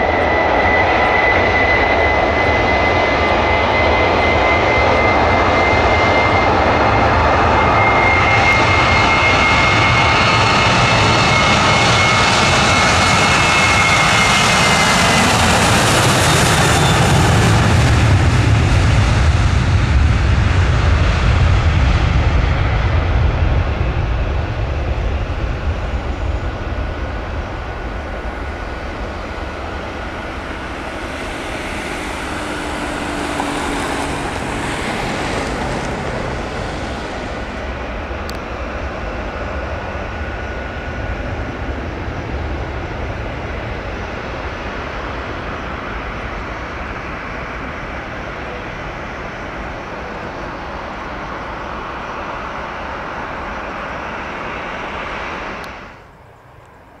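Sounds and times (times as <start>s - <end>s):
jet airliner engines rumbling: 0.0s - 57.0s.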